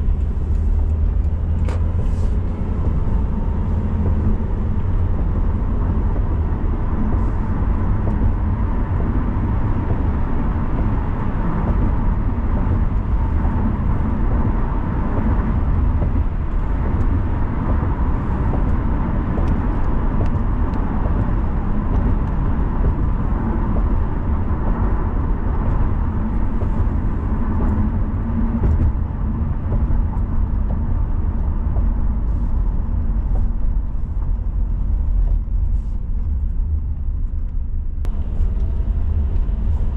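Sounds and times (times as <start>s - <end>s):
car road rumble: 0.0s - 39.9s.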